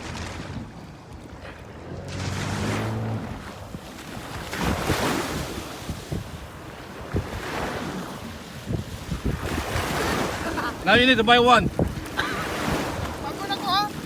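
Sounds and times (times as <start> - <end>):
water sloshing: 0.0 - 14.0
wind buffeting microphone: 0.0 - 14.0.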